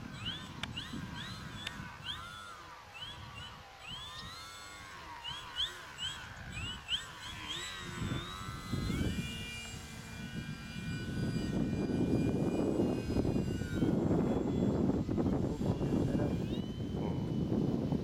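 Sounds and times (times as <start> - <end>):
model plane motor whining: 0.0 - 18.0
wind rumble on microphone: 0.0 - 18.0.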